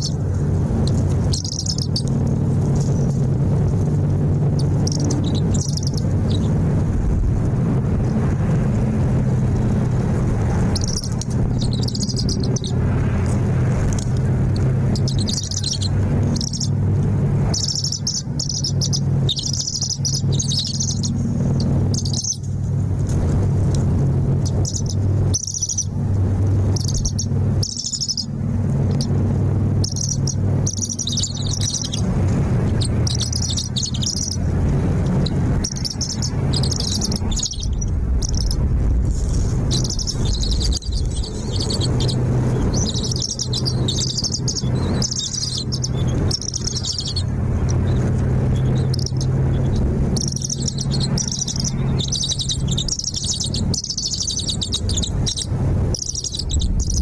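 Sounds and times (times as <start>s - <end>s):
birds chirping: 0.0s - 57.0s
low hum: 0.0s - 57.0s.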